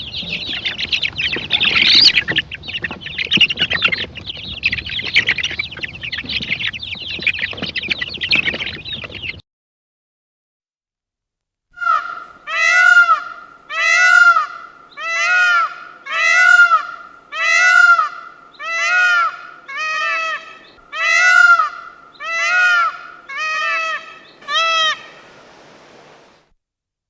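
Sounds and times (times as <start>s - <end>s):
animal calling: 0.0s - 9.4s, 11.8s - 25.5s.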